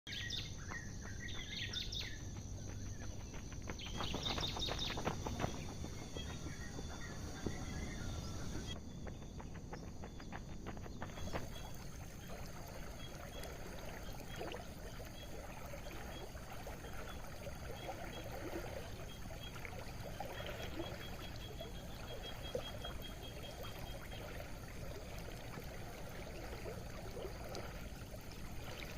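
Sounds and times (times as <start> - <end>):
birds chirping: 0.1 - 25.4.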